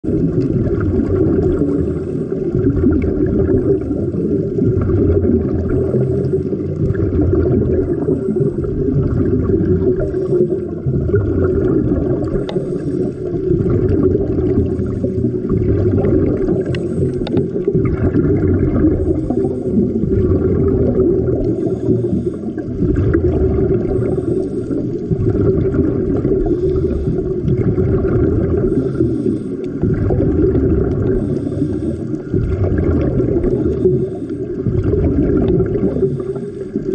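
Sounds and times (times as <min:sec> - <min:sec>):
bubbles gurgling: 0:00.0 - 0:36.9
muffled underwater rumble: 0:00.0 - 0:36.9.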